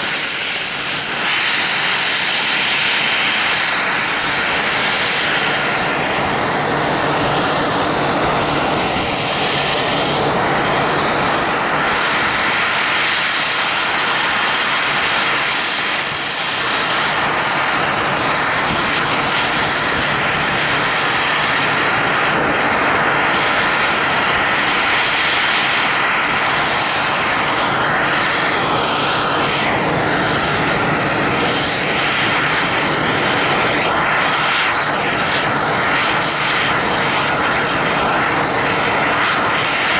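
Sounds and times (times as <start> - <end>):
jet engine roar with whine: 0.0 - 39.9.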